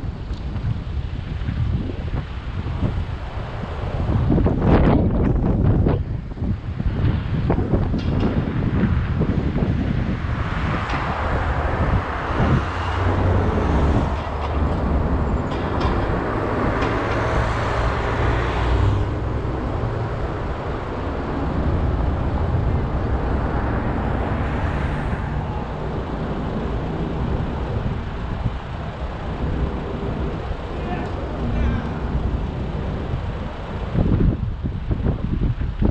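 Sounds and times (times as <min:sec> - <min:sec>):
car engine and tyre rumble: 0:00.0 - 0:35.9.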